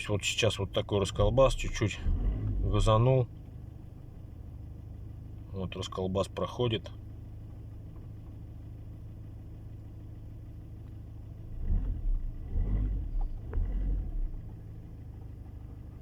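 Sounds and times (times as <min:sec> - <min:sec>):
diesel engine idling: 0:00.0 - 0:16.0
uneven engine rumble with knocks: 0:00.0 - 0:16.0.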